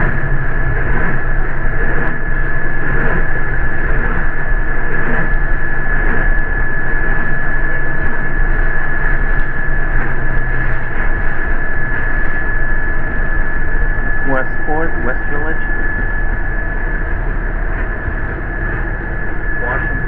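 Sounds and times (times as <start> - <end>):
bus rumbling inside: 0.0 - 20.0
high-pitched whine: 0.0 - 20.0.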